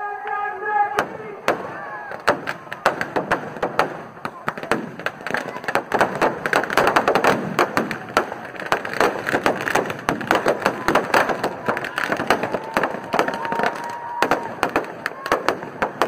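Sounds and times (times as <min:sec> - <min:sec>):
firecrackers cracking and banging: 0:01.0 - 0:16.0.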